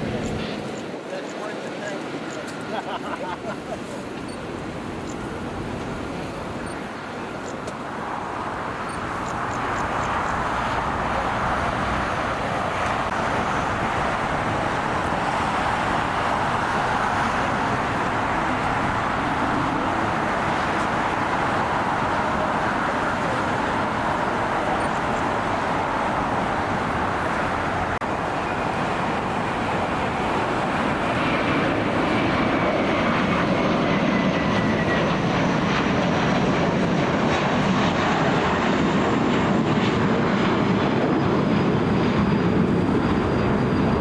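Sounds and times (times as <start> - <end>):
jet engine roar: 0.0 - 44.0.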